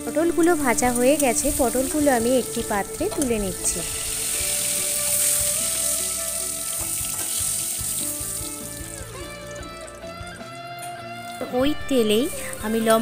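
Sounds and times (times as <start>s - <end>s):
background music with held notes: 0.0s - 13.0s
oil sizzling in a wok: 0.0s - 13.0s.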